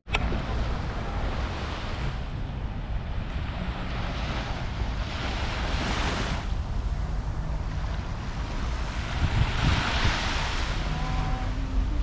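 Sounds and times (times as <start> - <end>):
waves breaking on beach: 0.1 - 12.0
wind rumbling on microphone: 0.1 - 12.0.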